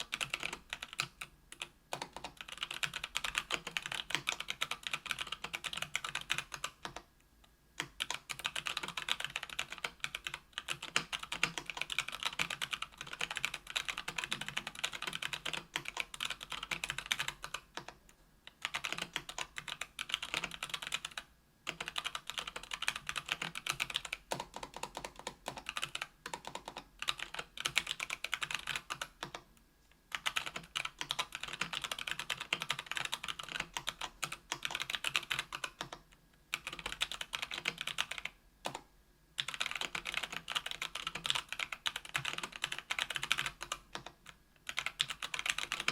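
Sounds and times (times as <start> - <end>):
typing on mechanical keyboard: 0.0 - 7.1, 7.8 - 29.4, 30.1 - 38.8, 39.4 - 45.9.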